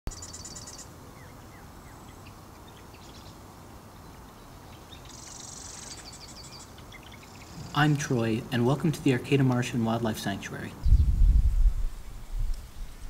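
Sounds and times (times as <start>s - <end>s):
low background hiss: 0.1s - 13.0s.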